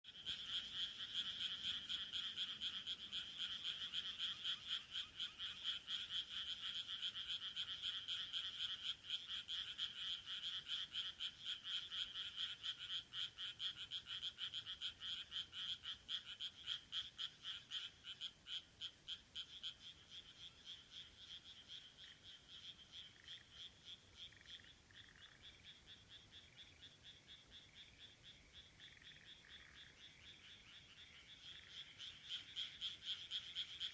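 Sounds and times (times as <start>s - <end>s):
frogs croaking: 0.0s - 33.9s.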